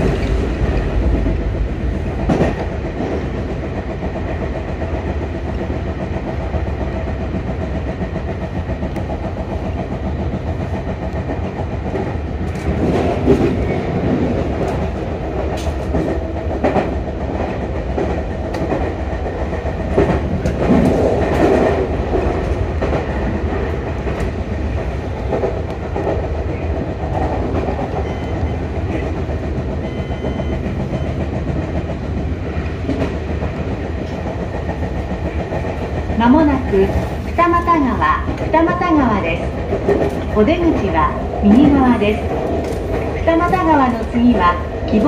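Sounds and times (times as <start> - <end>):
track clicks and clatter: 0.0 - 45.0
train wheels rumbling on rail: 0.0 - 45.0.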